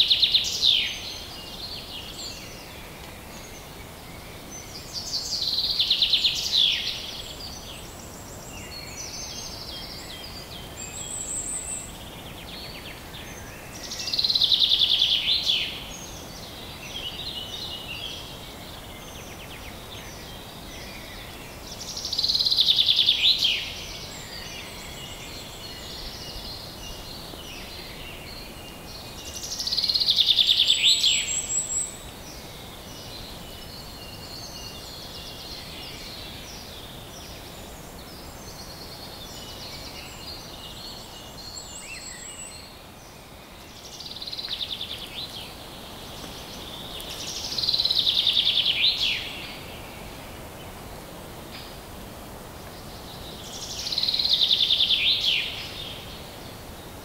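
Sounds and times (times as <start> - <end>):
background hiss: 0.0 - 57.0
songbird singing: 0.0 - 57.0.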